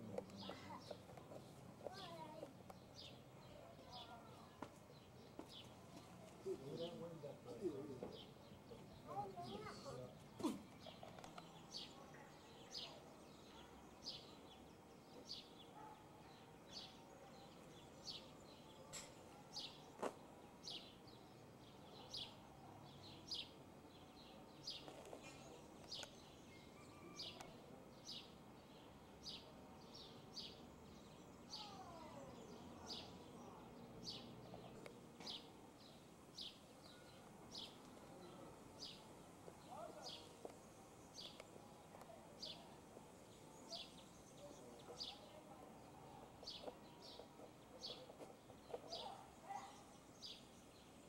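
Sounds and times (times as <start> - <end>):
faint outdoor background noise: 0.0 - 51.0
small bird chirping: 7.6 - 51.0.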